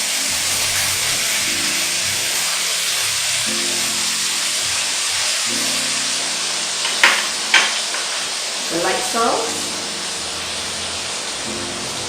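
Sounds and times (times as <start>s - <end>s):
chicken sizzling in frying pan: 0.0s - 12.0s
soft background music: 0.0s - 12.0s.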